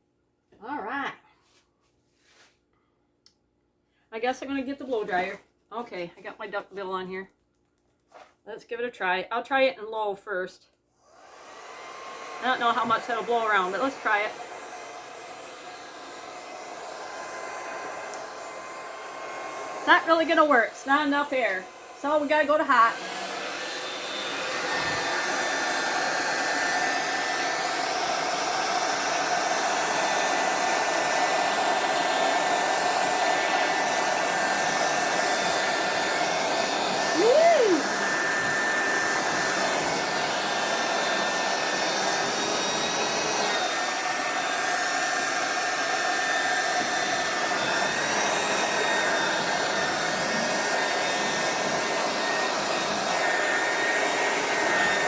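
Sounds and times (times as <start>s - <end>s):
hair dryer running: 4.2s - 5.4s, 11.0s - 55.0s.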